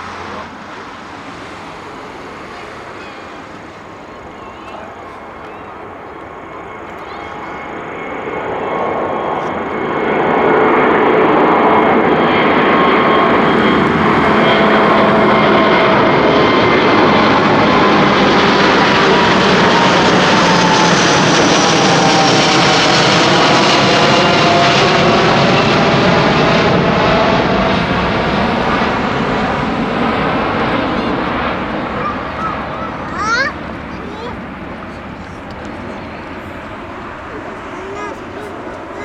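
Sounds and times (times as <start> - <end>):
jet airliner roaring at takeoff: 0.0 - 39.0.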